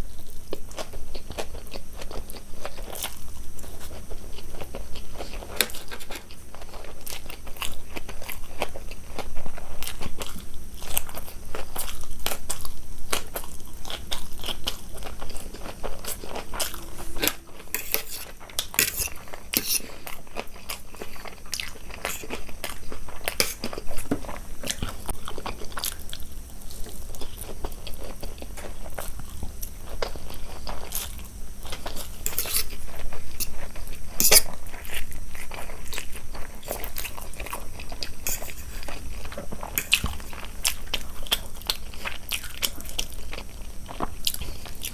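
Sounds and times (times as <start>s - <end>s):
person chewing and crunching food: 0.0s - 44.9s.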